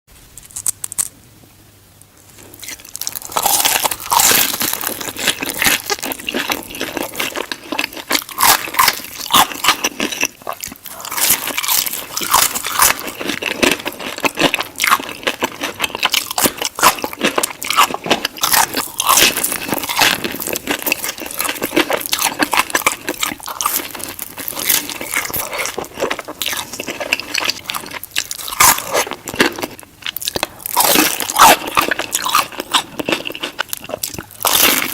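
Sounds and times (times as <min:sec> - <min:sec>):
crunchy chewing of fried chicken: 0:02.3 - 0:34.9.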